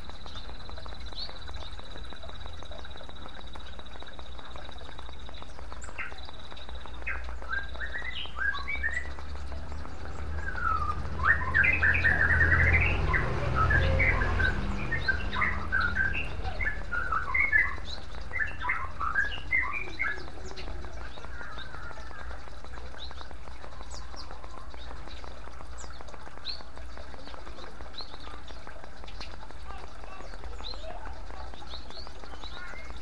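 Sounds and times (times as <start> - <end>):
fountain water trickling and splashing: 0.0 - 33.0
small bird chirping: 0.0 - 33.0.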